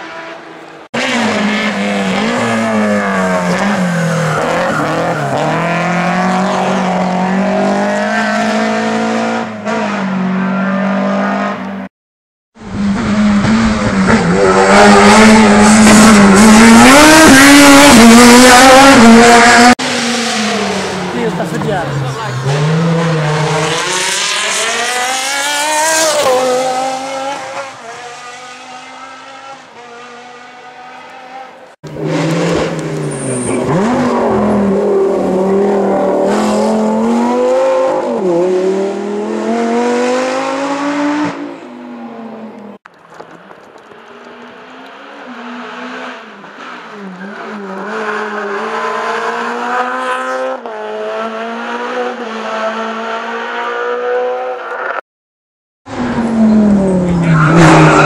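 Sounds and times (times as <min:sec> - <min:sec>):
race car engines at full throttle: 0:00.0 - 0:11.9, 0:12.6 - 0:55.0, 0:55.8 - 0:58.0.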